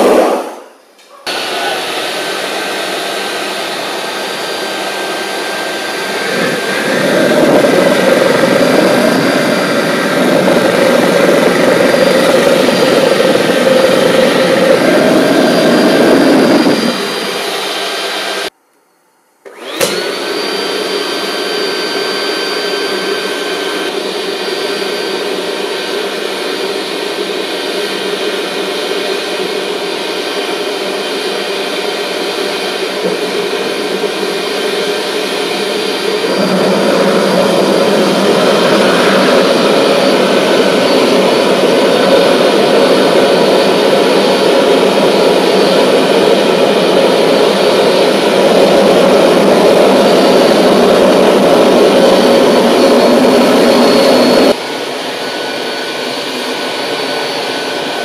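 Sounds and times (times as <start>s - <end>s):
deep turbine roar: 0.0s - 18.5s, 19.5s - 58.0s
rushing exhaust noise: 0.0s - 18.5s, 19.5s - 58.0s
gas turbine high whine: 0.0s - 58.0s.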